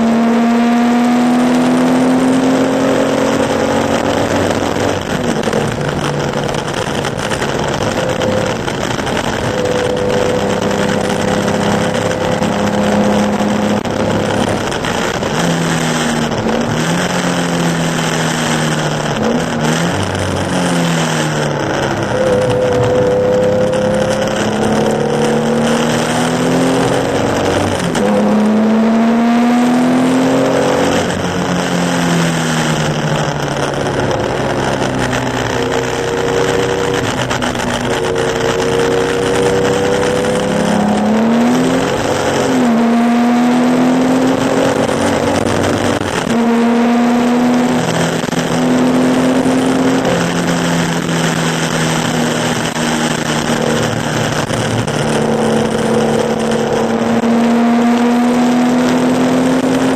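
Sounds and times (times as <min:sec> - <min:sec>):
racing car engine: 0:00.0 - 0:59.9.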